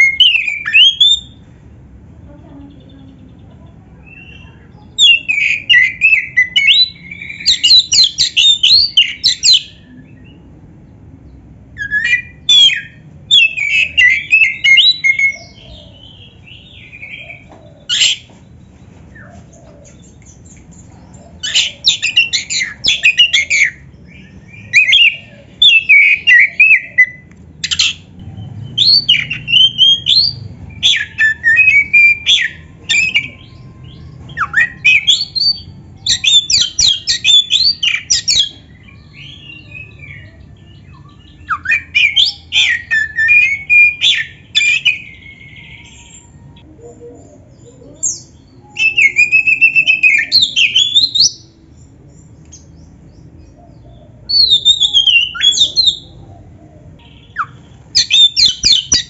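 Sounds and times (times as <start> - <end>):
magpie-robin singing: 0.0 - 1.5, 2.4 - 59.0.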